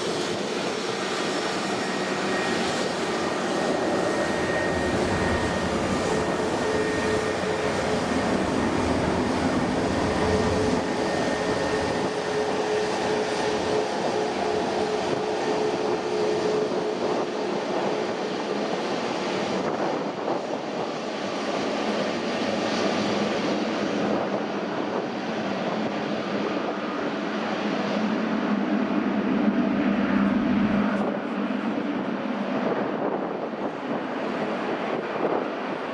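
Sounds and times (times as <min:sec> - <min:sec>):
engine whine: 0:00.0 - 0:35.9
jet engines rushing: 0:00.0 - 0:35.9.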